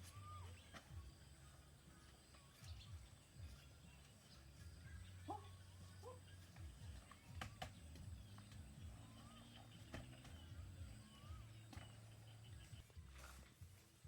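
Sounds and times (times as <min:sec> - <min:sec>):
faint bird chirps: 0:00.0 - 0:13.9.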